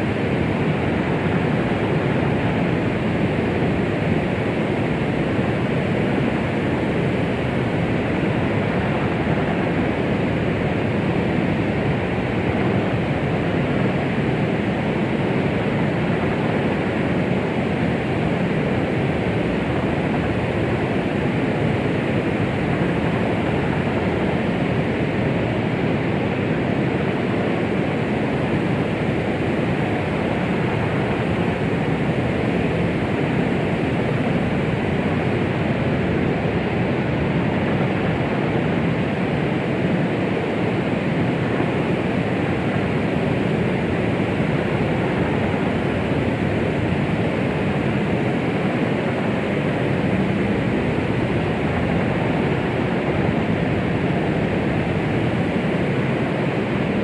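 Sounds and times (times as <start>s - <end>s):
low white noise: 0.0s - 57.0s.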